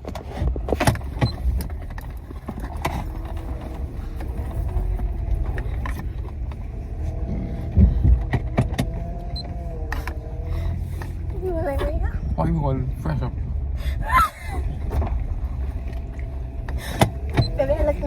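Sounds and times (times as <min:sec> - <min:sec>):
low rumble inside car cabin: 0:00.0 - 0:18.0.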